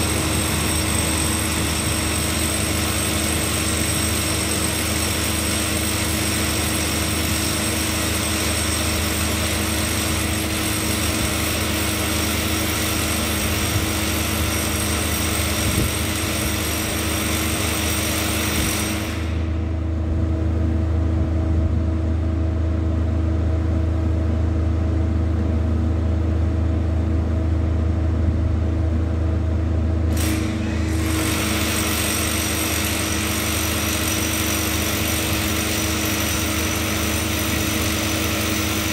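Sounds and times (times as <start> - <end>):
machinery droning: 0.0 - 17.0, 18.3 - 38.9.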